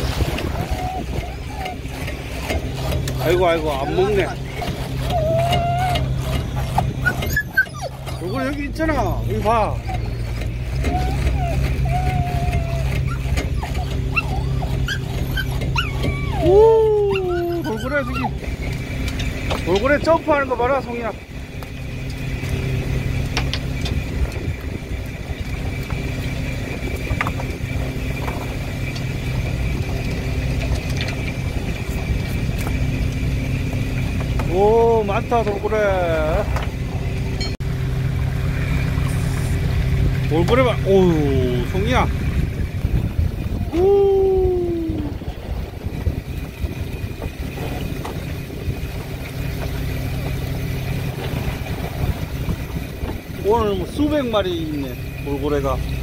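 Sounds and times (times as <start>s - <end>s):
boat engine droning: 0.0s - 56.0s
wind and sea noise: 0.0s - 56.0s.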